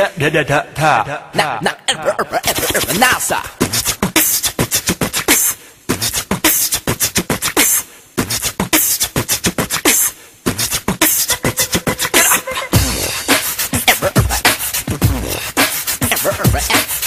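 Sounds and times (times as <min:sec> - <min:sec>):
beatboxing: 0:00.0 - 0:17.0.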